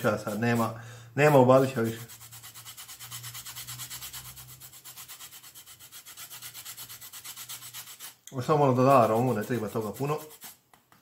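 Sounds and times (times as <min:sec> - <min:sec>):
grater scraping lemon peel: 0:01.6 - 0:10.6.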